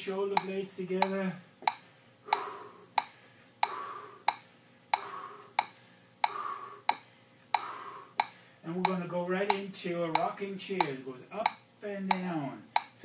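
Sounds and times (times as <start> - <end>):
metronome ticking: 0.0 - 7.0, 7.6 - 13.0.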